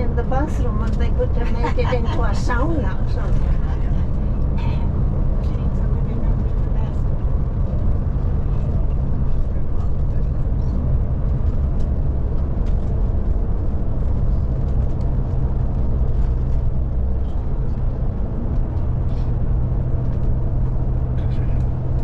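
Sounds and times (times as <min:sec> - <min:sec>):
coach engine drone: 0:00.0 - 0:22.0
road noise: 0:00.0 - 0:22.0.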